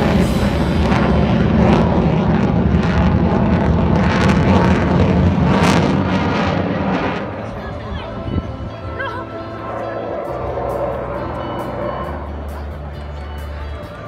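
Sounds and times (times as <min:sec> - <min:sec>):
fighter jet engine roar: 0:00.0 - 0:13.8.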